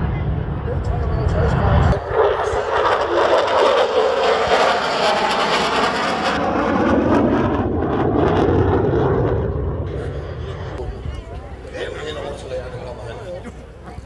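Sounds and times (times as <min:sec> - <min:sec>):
jet flying past: 0:00.0 - 0:13.8.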